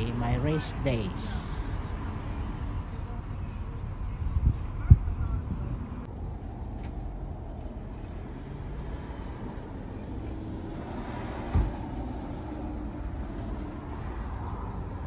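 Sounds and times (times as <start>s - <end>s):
car traffic rumble: 0.0s - 15.0s
vehicle engine humming: 0.0s - 15.0s.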